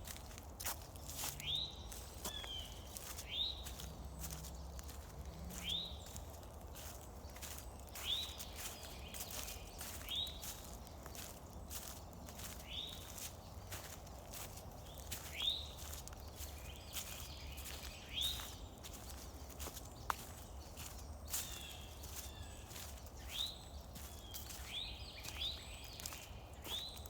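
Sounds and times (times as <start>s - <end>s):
footsteps on woodland trail: 0.0s - 27.0s.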